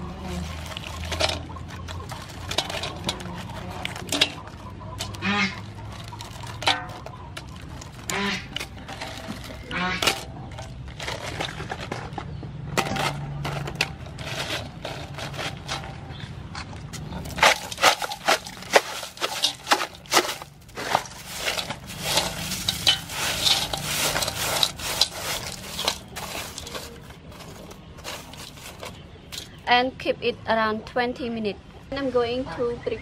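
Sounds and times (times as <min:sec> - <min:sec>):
ice clattering on shells and metal: 0:00.0 - 0:16.2, 0:17.0 - 0:29.6
hand scraping ice: 0:00.2 - 0:12.2, 0:12.8 - 0:16.2, 0:17.0 - 0:29.6.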